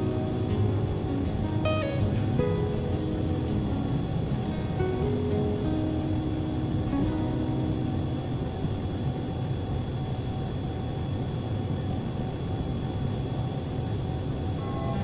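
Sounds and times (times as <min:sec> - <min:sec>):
faint high whine: 0:00.0 - 0:15.0
low background rumble: 0:00.0 - 0:15.0.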